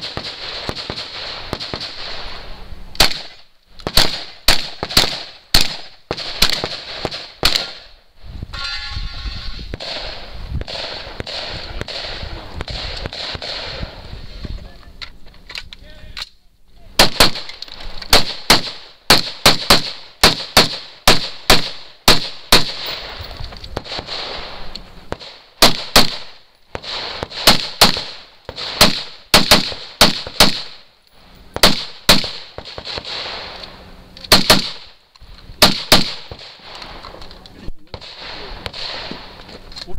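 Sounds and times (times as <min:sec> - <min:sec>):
rifle gunshots: 0:00.0 - 0:07.9, 0:09.7 - 0:14.0, 0:17.0 - 0:30.8, 0:31.6 - 0:33.7, 0:34.3 - 0:35.0, 0:35.6 - 0:37.2, 0:37.9 - 0:39.4.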